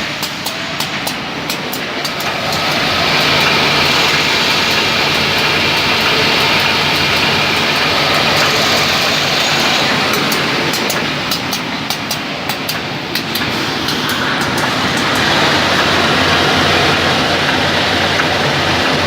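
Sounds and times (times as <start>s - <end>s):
light regular ticking: 0.0s - 16.5s
sanding machine whirring: 0.0s - 19.0s.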